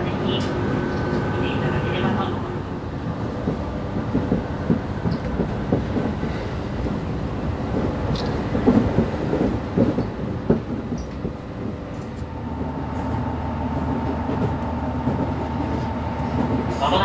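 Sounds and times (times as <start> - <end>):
railcar running noise: 0.0 - 17.0.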